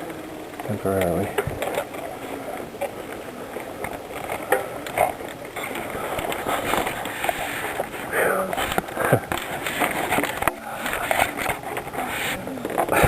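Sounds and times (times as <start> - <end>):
bicycle clicks and rattles: 0.0 - 13.0
bicycle riding rushing noise: 0.0 - 13.0.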